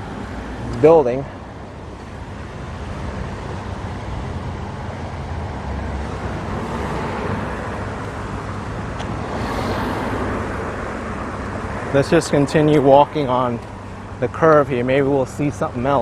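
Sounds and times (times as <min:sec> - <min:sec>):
cars passing close by: 0:00.0 - 0:16.0.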